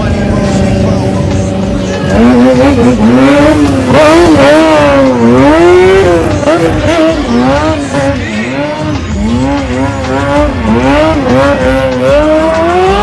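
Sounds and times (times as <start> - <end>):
stunt motorcycle engine wavering: 0.0 - 13.0.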